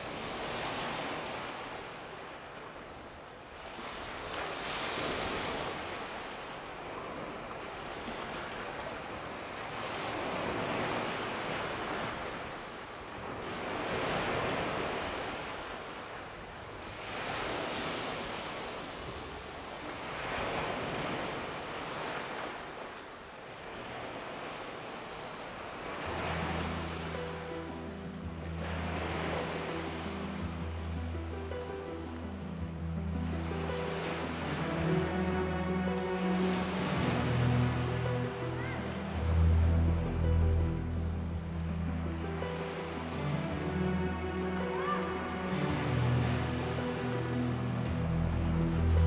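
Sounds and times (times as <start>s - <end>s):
sea waves washing onto shore: 0.0s - 49.0s.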